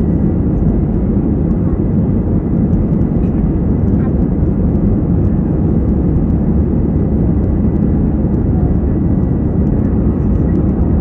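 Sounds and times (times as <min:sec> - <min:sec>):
air rushing in cabin: 0:00.0 - 0:11.0
jet engines roaring: 0:00.0 - 0:11.0.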